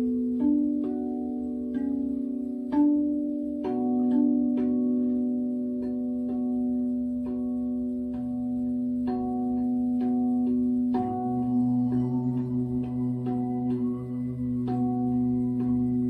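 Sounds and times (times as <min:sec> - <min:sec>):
singing bowl humming tone: 0:00.0 - 0:16.0
struck melodic notes: 0:00.0 - 0:16.0.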